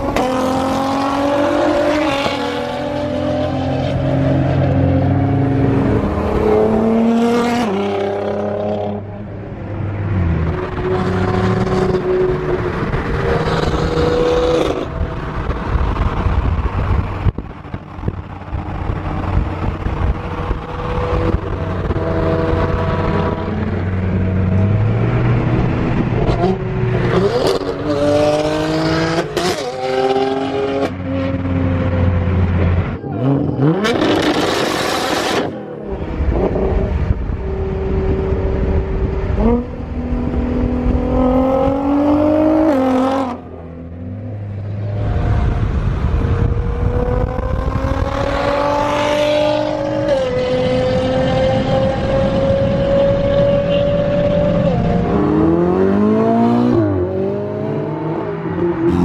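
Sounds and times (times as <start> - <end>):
car engine accelerating hard: 10.1 - 59.0.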